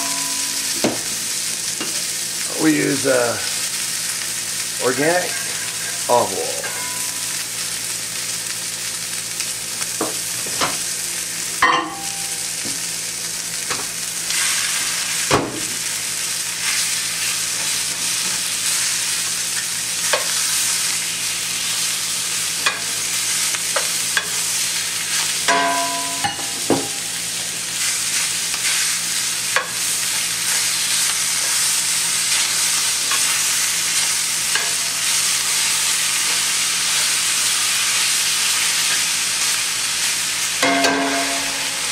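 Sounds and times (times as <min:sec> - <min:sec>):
steaks sizzling in a pan: 0:00.0 - 0:41.9.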